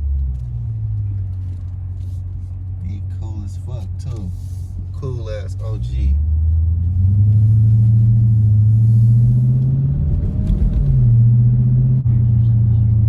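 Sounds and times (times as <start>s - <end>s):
car exhaust droning: 0.0s - 13.0s.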